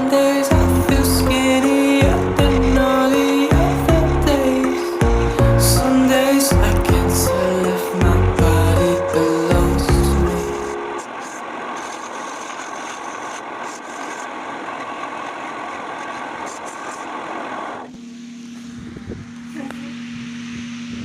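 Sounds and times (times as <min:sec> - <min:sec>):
lathe tool cutting spinning wood: 0:00.0 - 0:17.9
lathe motor hum: 0:00.0 - 0:21.0.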